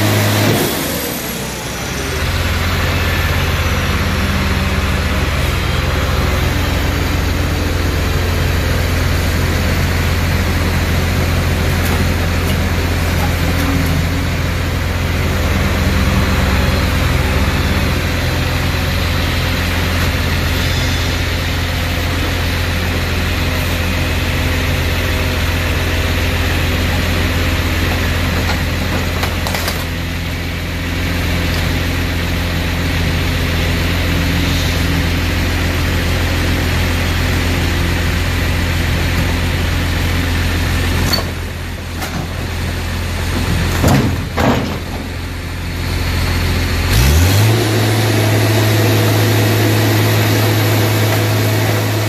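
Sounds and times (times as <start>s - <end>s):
engine deep hum: 0.0s - 52.0s.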